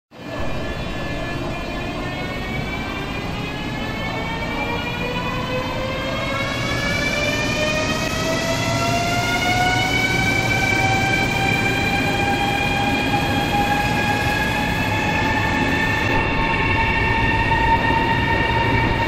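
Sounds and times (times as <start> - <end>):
electric train traction whine: 0.2 - 19.0.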